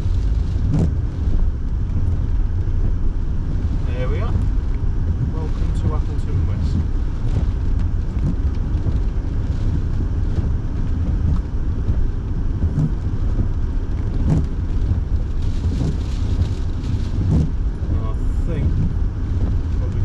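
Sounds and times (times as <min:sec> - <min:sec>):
car interior engine rumble: 0:00.0 - 0:20.0
heater fan running: 0:00.0 - 0:20.0
rain ticking on car: 0:00.0 - 0:20.0.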